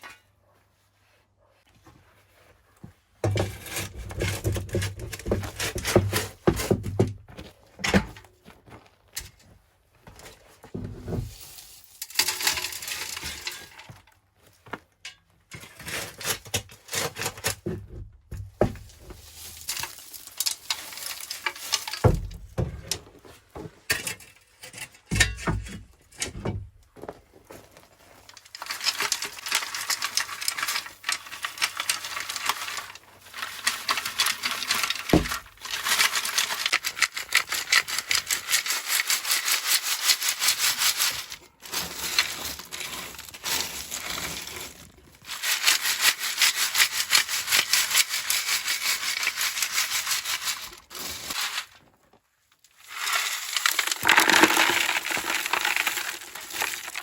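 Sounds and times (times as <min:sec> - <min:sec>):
hard objects clinking and scraping: 0:03.2 - 0:07.1, 0:10.8 - 0:14.2, 0:14.9 - 0:26.7, 0:27.6 - 0:57.0.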